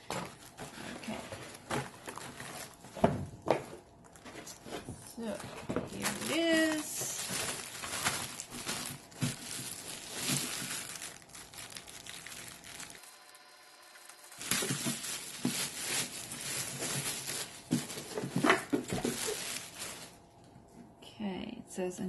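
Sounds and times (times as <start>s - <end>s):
plastic wrapping crinkling: 0.0s - 20.5s.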